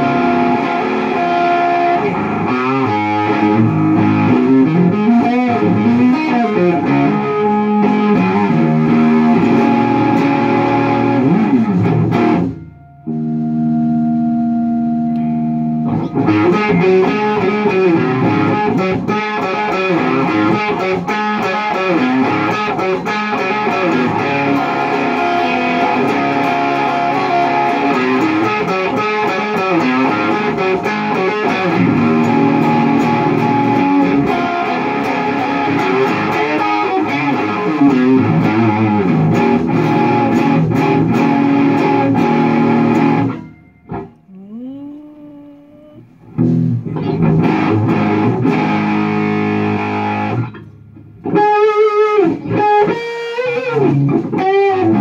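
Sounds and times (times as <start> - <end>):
distorted electric guitar riffs: 0.0 - 55.0.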